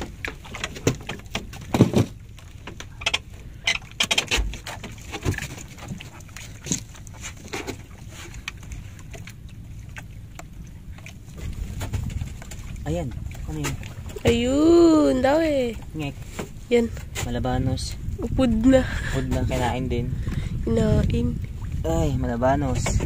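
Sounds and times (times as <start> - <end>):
knocks and clatter on boat: 0.0 - 23.0
wind and water rumble: 0.0 - 23.0.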